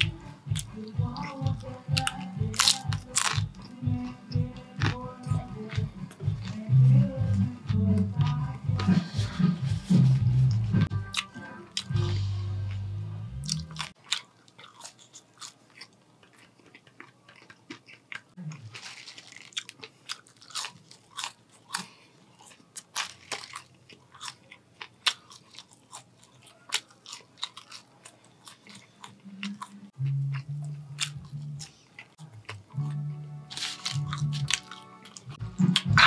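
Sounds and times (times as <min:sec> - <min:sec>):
person chewing crunchy fries: 0:00.0 - 0:09.4, 0:10.4 - 0:36.0.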